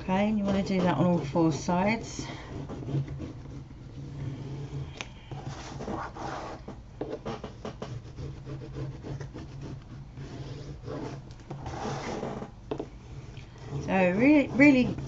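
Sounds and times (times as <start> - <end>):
bone folder scraping paper: 0.1 - 15.0.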